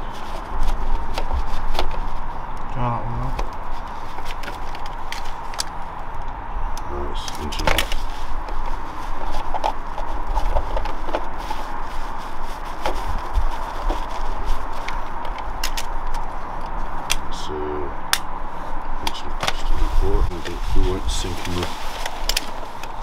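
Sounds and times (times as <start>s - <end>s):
outdoor rush: 0.0s - 23.0s.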